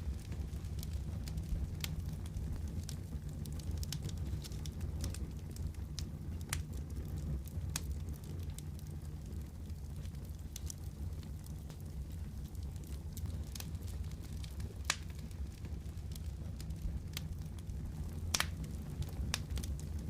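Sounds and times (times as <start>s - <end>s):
fireplace crackling: 0.0s - 20.0s.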